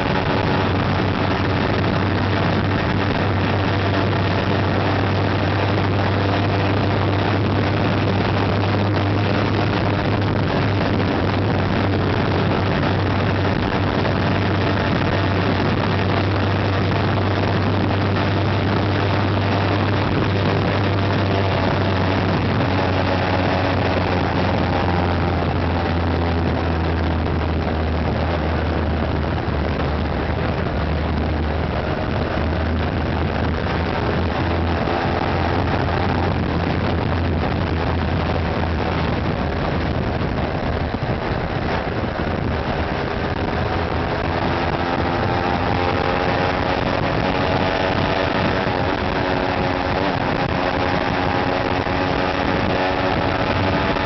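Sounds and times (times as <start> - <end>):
motorcycle engine drone: 0.0 - 54.0
road noise: 0.0 - 54.0
wind noise: 0.0 - 54.0.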